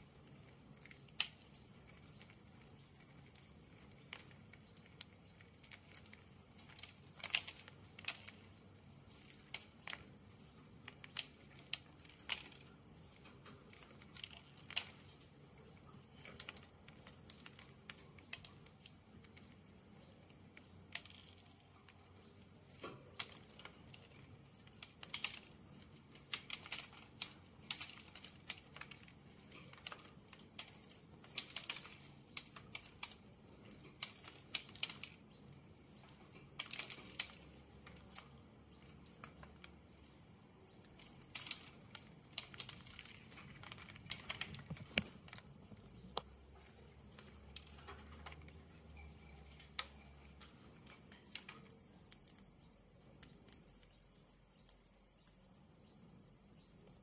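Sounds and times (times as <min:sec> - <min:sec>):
budgie cracking seeds: 0:00.0 - 0:57.0.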